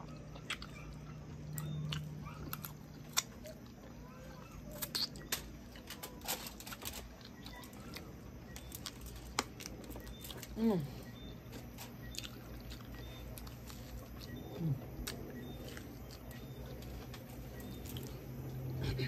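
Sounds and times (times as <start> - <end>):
chewing crispy chicken: 0.0 - 19.0.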